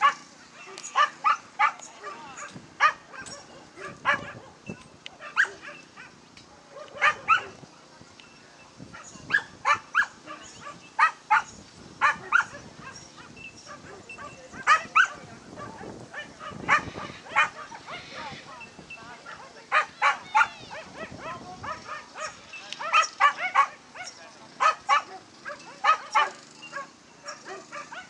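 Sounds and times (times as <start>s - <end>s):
dog barking: 0.0s - 4.6s, 5.2s - 7.6s, 9.0s - 18.7s, 19.3s - 28.0s.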